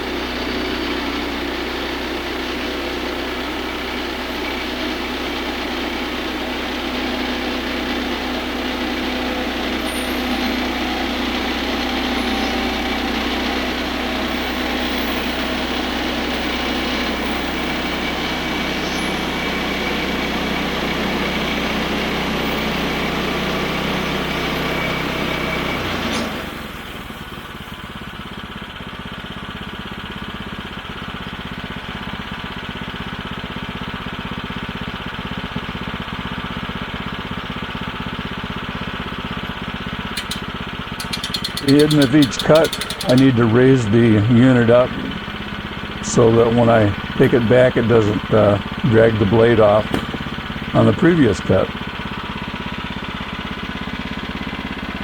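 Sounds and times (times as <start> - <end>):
gas engine running: 0.0 - 55.0.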